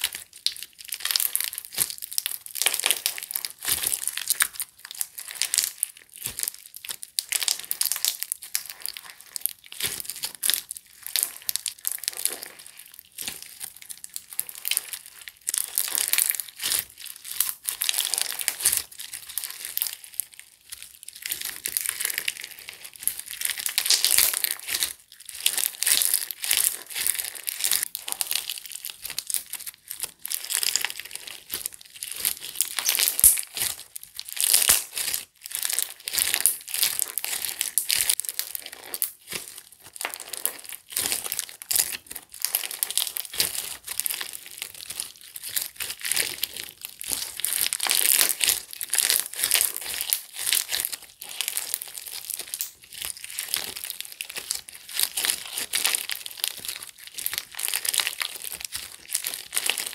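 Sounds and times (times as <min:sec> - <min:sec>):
slime squished by hand: 0:00.0 - 0:59.9.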